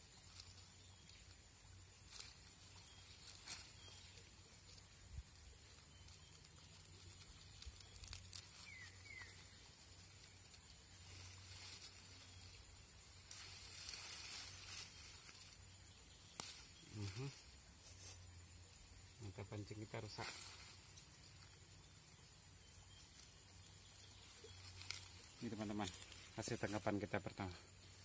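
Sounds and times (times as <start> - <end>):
rustling and scraping: 0.0 - 18.5, 20.0 - 21.7, 22.9 - 28.0.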